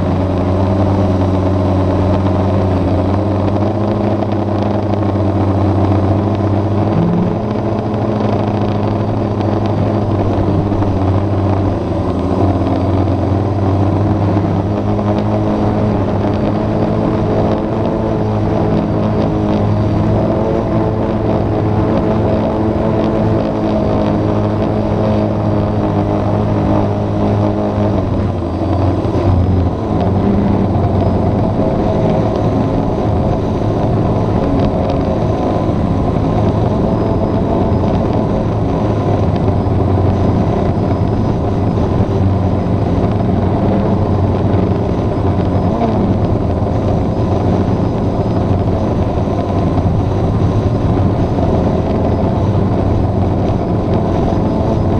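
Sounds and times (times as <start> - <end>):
drone propellers whirring: 0.0 - 54.9.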